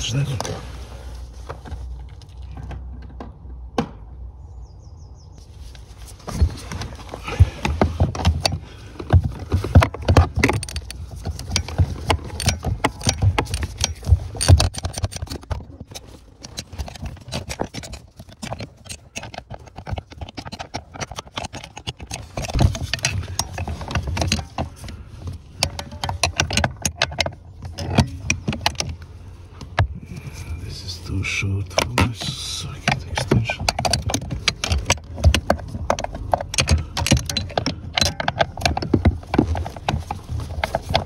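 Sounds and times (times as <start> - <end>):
hand tools clicking and rattling: 6.2 - 41.0.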